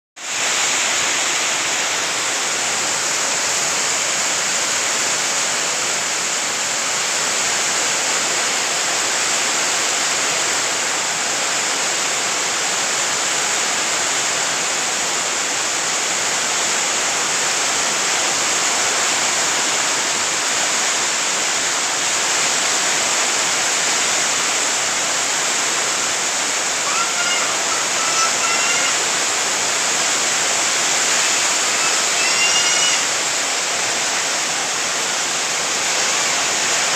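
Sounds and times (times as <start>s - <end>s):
heavy rain downpour: 0.2s - 36.9s.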